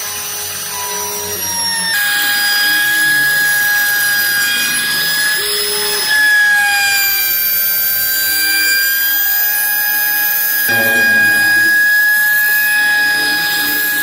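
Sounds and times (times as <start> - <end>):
cnc router high whine: 0.0 - 14.0
motor whir gliding in pitch: 0.0 - 14.0.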